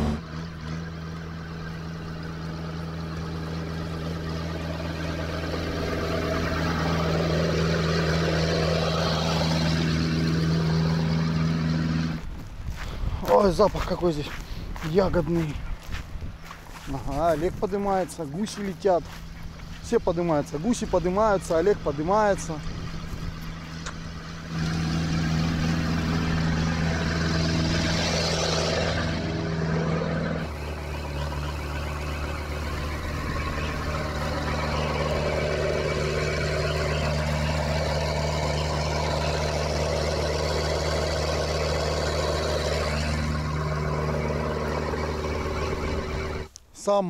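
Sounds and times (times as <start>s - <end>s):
diesel engine driving past: 0.0s - 46.5s.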